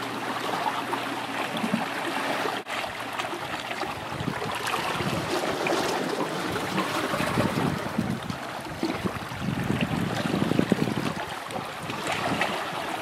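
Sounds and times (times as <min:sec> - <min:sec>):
sea washing over rocks: 0:00.0 - 0:13.0.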